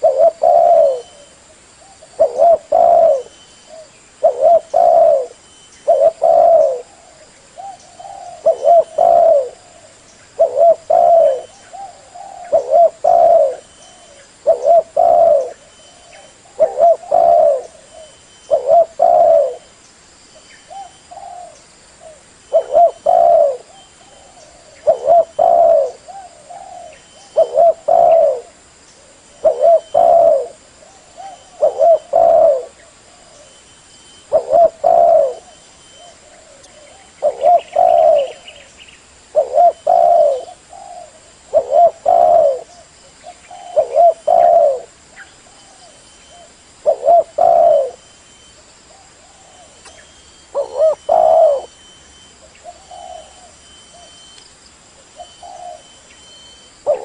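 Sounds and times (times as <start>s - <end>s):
dove cooing: 0.0s - 19.7s, 20.7s - 38.7s, 39.3s - 48.1s, 48.9s - 54.3s, 55.0s - 57.0s.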